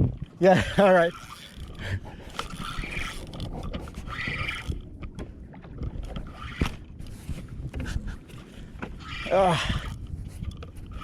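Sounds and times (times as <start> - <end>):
water sloshing: 0.0 - 11.0.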